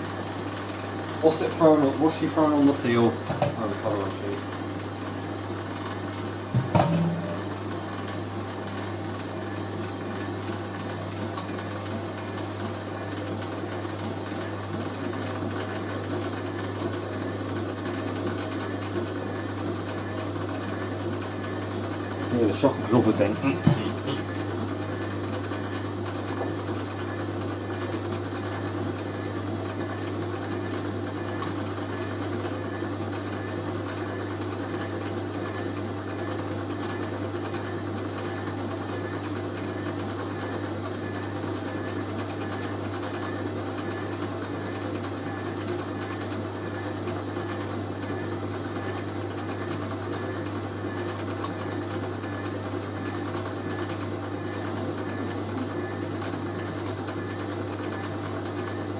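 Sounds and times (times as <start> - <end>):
washing machine humming: 0.0 - 58.9.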